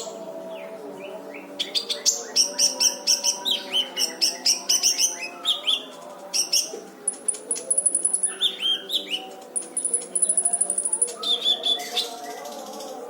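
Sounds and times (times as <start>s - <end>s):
bird chirping and trilling: 1.4s - 13.0s.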